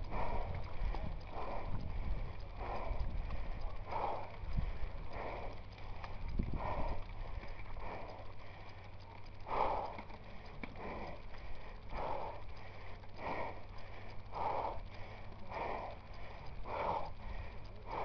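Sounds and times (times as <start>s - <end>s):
low rumble: 0.0s - 18.0s
person breathing hard: 0.0s - 18.0s.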